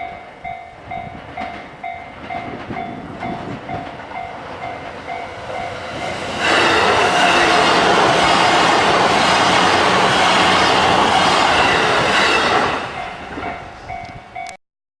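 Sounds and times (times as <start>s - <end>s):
level crossing warning bell: 0.0s - 9.1s, 11.5s - 14.6s
train wheel and rail noise: 0.0s - 14.6s.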